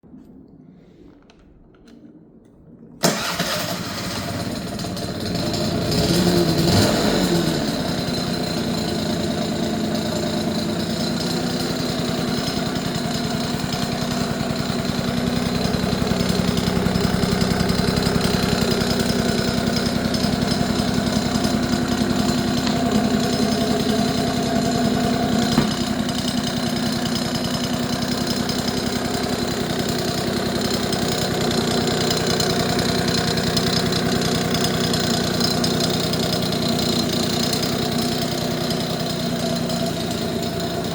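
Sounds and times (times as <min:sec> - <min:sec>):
scooter engine idling: 0:03.0 - 0:40.9.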